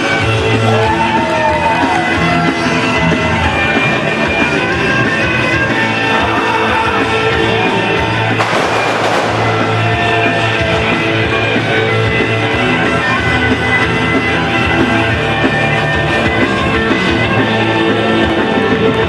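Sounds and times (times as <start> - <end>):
rock music over loudspeaker: 0.0 - 19.0.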